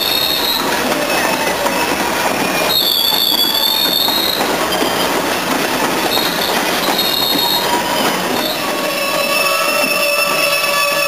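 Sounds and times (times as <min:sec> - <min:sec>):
freight train rumble and clatter: 0:00.0 - 0:11.0
train wheels squealing: 0:00.0 - 0:11.0.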